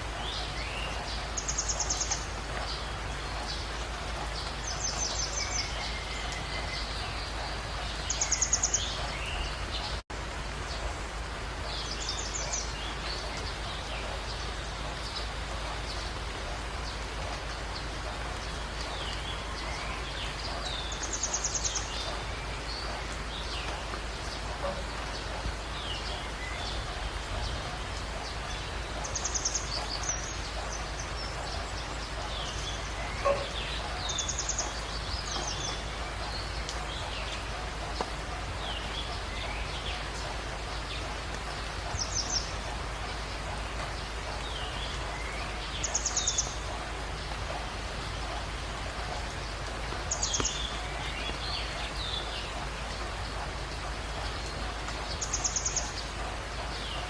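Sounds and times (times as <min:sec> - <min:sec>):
birds chirping: 0:00.0 - 0:57.0
rain hissing: 0:00.0 - 0:57.0.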